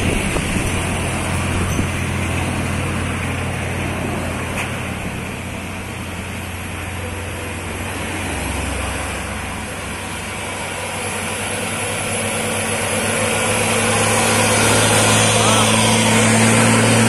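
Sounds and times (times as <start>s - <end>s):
truck diesel engine: 0.0s - 17.0s
tyre and road noise: 0.0s - 17.0s.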